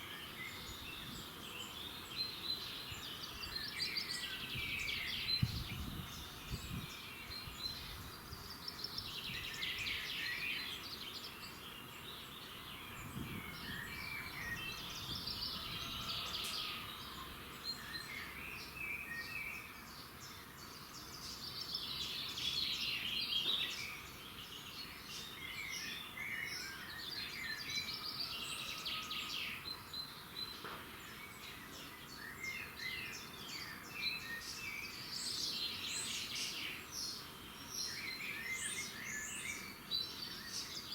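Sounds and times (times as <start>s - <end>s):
outdoor background hiss: 0.0s - 40.9s
songbirds singing: 0.0s - 40.9s.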